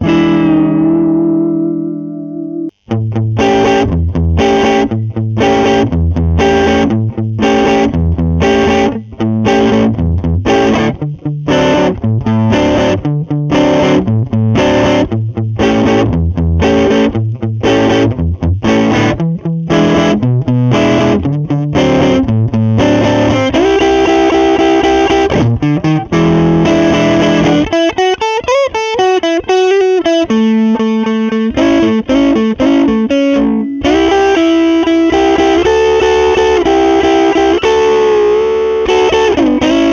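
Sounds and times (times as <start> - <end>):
overdriven electric guitar: 0.0 - 39.9.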